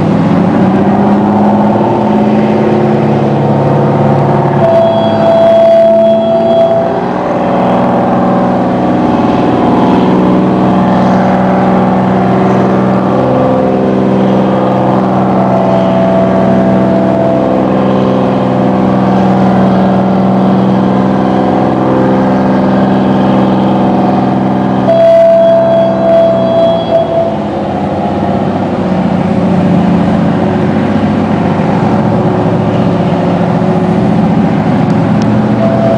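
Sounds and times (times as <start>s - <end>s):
boat diesel engines droning: 0.0s - 35.9s
fog horn tone: 0.3s - 29.2s, 35.1s - 35.9s.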